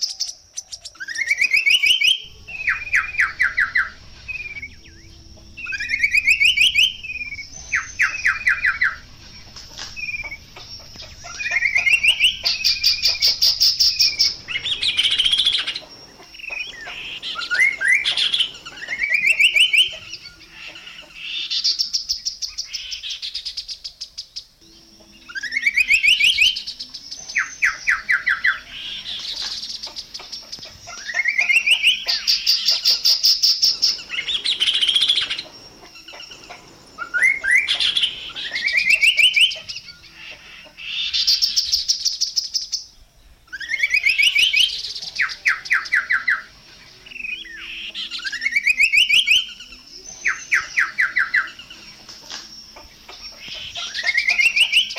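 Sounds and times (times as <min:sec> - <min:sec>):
bird singing rising notes and trill: 0:00.0 - 0:54.9.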